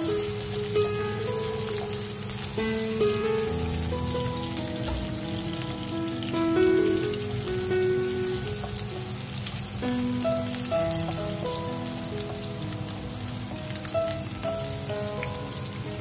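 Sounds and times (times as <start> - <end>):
background music: 0.0 - 16.0
onion sizzling in oil: 0.0 - 16.0.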